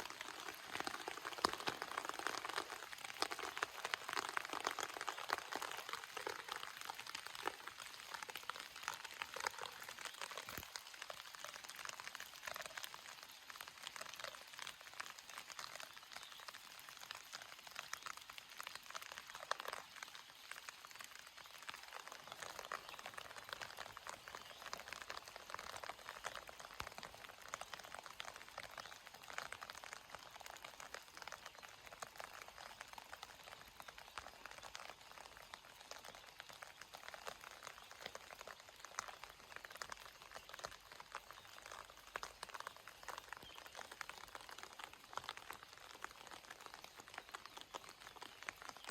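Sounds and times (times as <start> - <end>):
sharp raindrop: 0.0 - 48.9
steady rain: 0.0 - 48.9.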